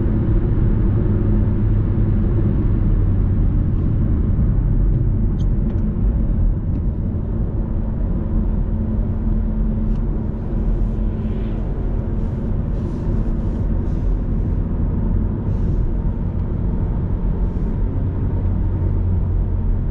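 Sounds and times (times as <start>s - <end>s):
car engine cruising: 0.0s - 19.9s
road and tyre rumble: 0.0s - 19.9s.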